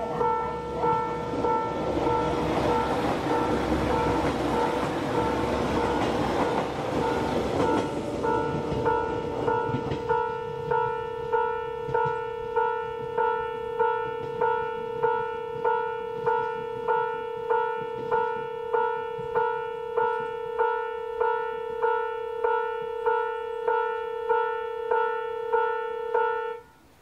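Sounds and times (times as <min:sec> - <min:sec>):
level crossing warning bell: 0:00.0 - 0:26.7.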